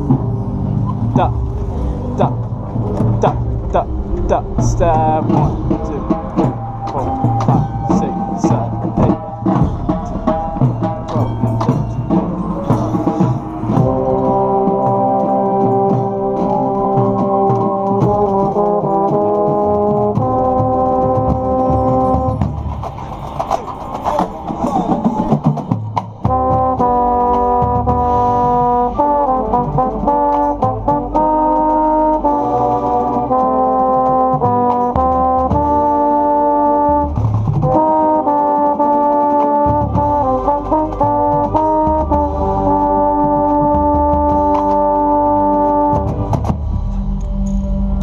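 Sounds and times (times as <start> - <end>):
baritone horn playing: 0.0 - 22.5, 26.2 - 46.6
brass band playing: 0.0 - 47.8.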